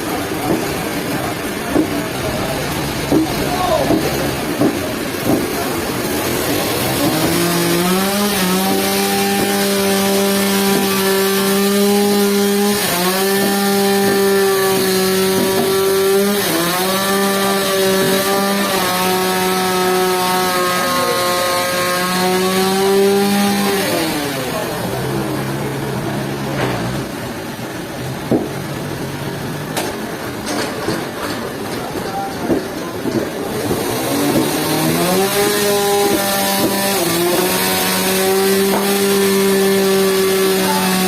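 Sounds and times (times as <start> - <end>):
saw blade cutting log: 0.0 - 28.8, 29.7 - 41.0.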